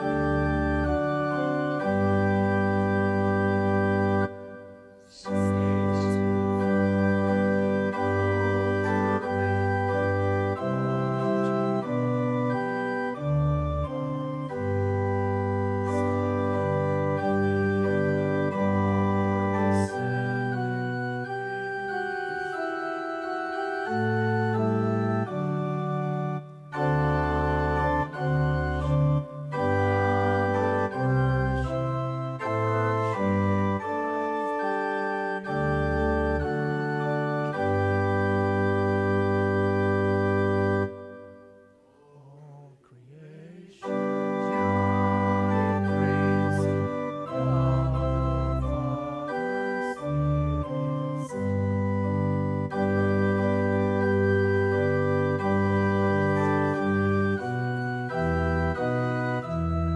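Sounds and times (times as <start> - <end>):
hymn on electronic organ: 0.0 - 59.9.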